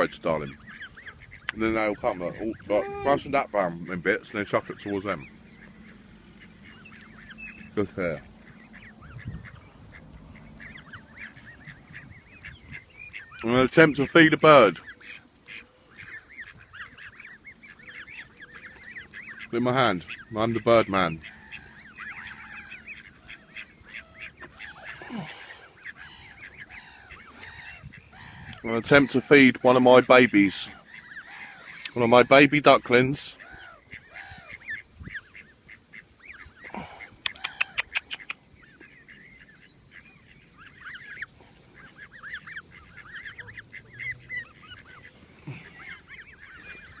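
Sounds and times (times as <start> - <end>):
waterfowl calling: 0.0 - 47.0.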